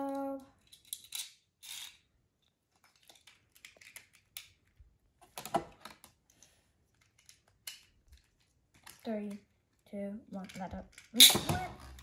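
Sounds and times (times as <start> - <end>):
plastic toy parts clicking: 0.0 - 2.1, 2.8 - 4.8, 5.4 - 9.4, 10.3 - 12.0.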